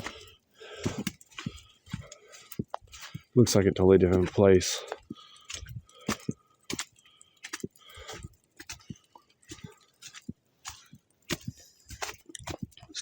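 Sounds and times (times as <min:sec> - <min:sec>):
footsteps crunching in wet snow: 0:00.0 - 0:13.0.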